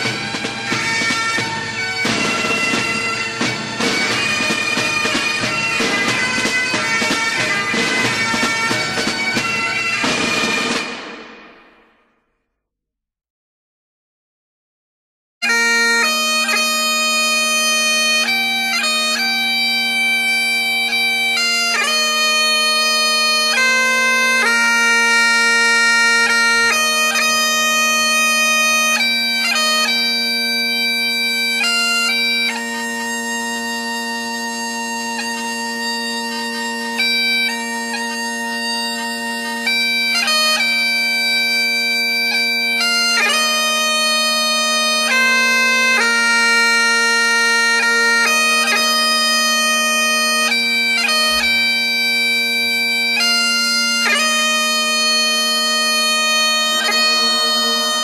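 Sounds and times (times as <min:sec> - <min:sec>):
bagpipes playing a tune: 0:00.0 - 0:11.6, 0:15.4 - 0:58.0.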